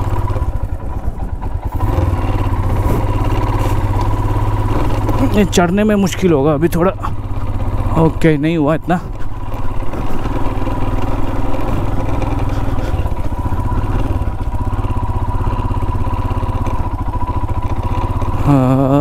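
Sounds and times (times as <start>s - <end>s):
motorcycle engine climbing slowly: 0.0s - 19.0s.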